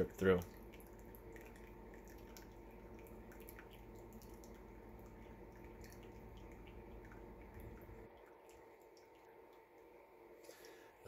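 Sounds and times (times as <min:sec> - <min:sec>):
coffee trickling into mug: 0:00.0 - 0:10.8
low hum: 0:00.0 - 0:11.0.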